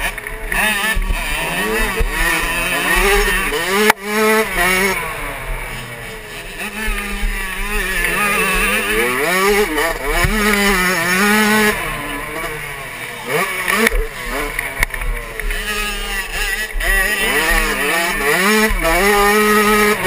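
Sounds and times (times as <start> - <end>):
two-stroke motocross engine revving: 0.0 - 20.0.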